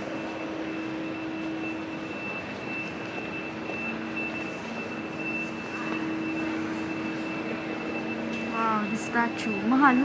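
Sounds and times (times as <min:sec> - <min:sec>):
constant mechanical hum: 0:00.0 - 0:10.0.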